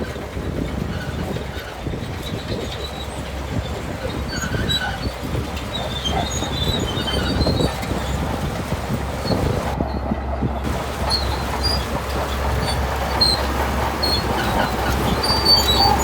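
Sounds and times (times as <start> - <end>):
bulldozer diesel drone: 0.0 - 16.0
tracks clanking and squealing: 0.0 - 16.0.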